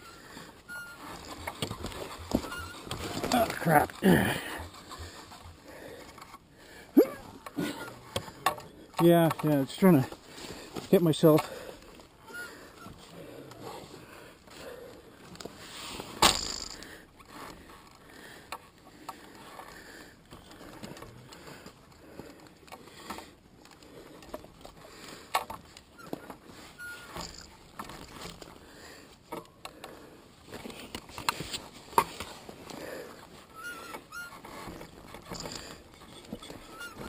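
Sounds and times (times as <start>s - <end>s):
dirt bike being pushed: 0.0s - 37.0s.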